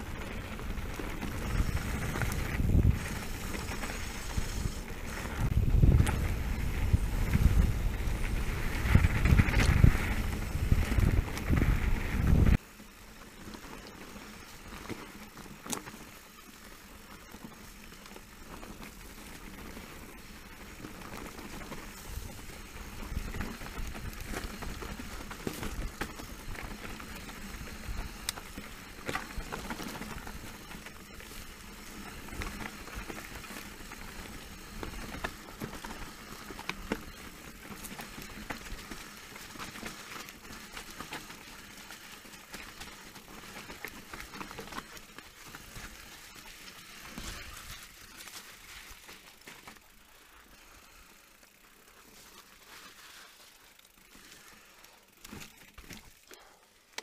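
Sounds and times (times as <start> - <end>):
tyres crunching on dirt: 0.0 - 51.0
bike rattling: 0.0 - 57.0.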